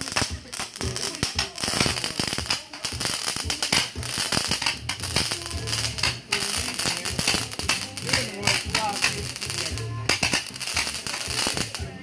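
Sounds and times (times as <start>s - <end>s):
firework hissing and crackling: 0.0s - 12.0s.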